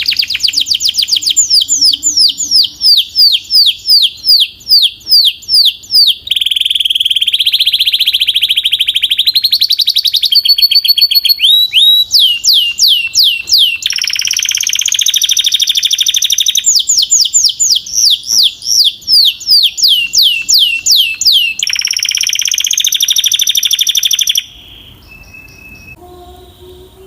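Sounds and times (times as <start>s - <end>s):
canary singing: 0.0s - 27.0s
faint bird chirps: 0.0s - 27.0s.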